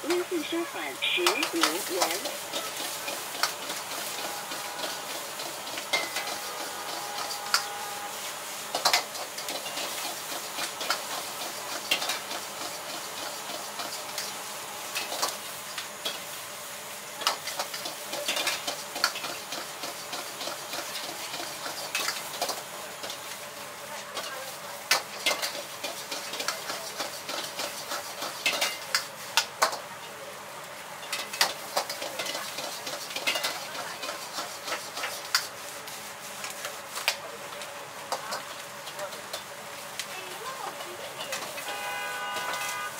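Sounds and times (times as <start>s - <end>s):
frying sizzle: 0.0s - 42.9s.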